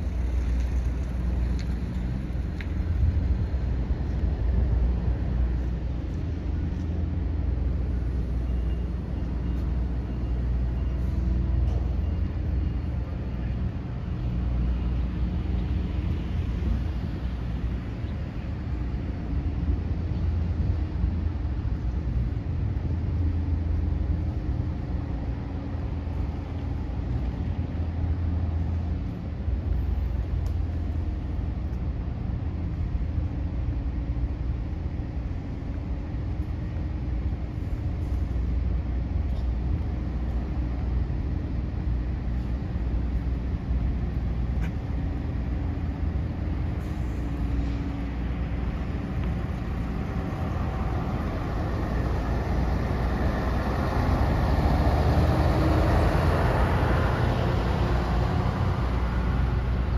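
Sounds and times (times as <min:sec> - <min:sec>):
wind rumbling on microphone: 0:00.0 - 0:08.3, 0:13.6 - 0:59.9
low engine hum: 0:00.0 - 0:59.9.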